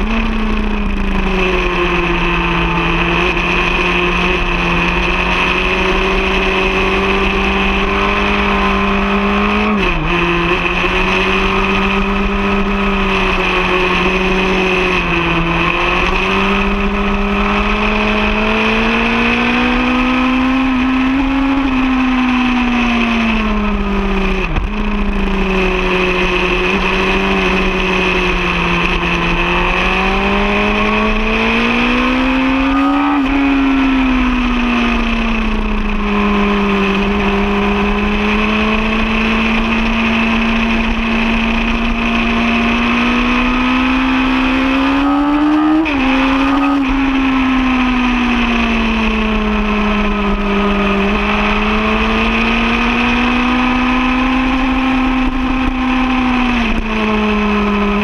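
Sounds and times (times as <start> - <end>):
racing motorcycle engine: 0.0 - 58.0.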